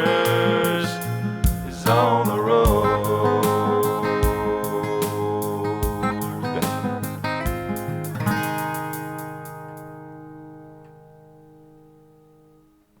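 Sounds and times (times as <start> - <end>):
strummed guitar music: 0.0 - 13.0.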